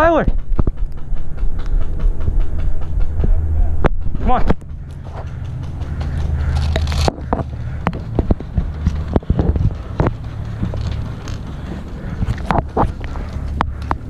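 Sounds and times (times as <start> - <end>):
sharp clicks and knocks: 0.0 - 14.0
wind rumble on microphone: 0.0 - 14.0.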